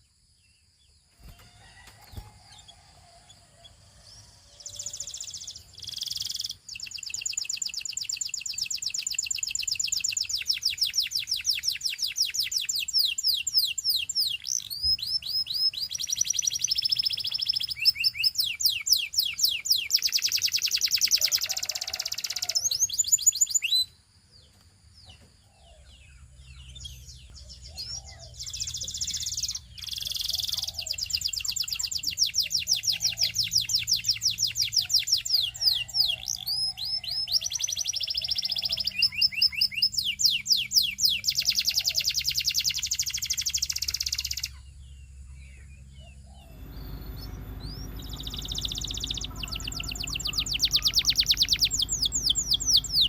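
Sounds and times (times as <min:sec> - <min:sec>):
soft canary chirps: 0:00.0 - 0:53.0
canary singing trills: 0:01.1 - 0:24.0, 0:25.1 - 0:53.0.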